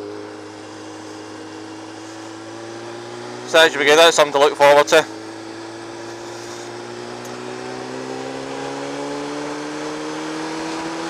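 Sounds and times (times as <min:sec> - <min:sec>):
motorcycle engine revving under load: 0:00.0 - 0:11.0
road noise: 0:00.0 - 0:11.0.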